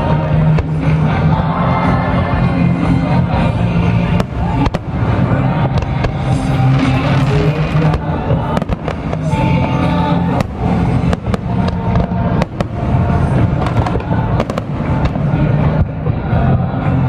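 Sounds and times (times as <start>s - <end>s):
loud music: 0.0s - 17.0s
fireworks bursting: 2.9s - 17.0s.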